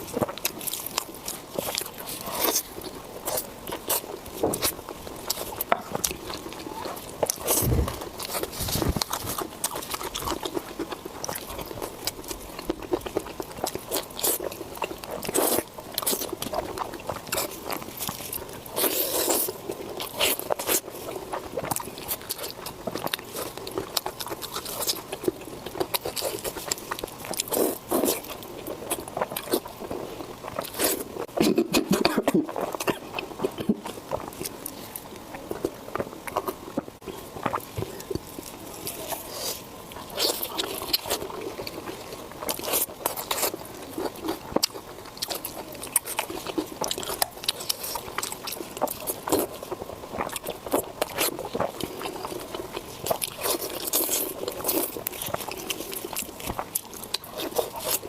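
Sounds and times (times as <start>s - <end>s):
person crunching and chewing: 0.0s - 58.0s.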